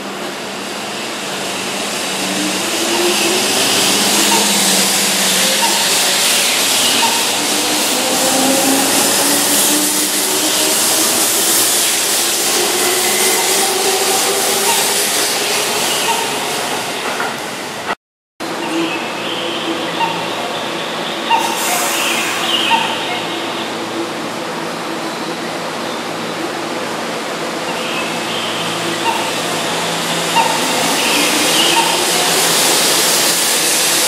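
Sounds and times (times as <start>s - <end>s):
wheels rushing on rail: 0.0s - 34.0s.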